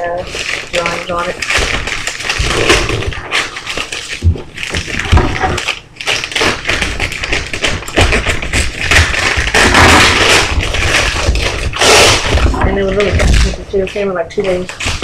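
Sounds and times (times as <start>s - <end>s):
items knocking against a box: 0.0s - 15.0s
packaging rustling: 0.0s - 15.0s.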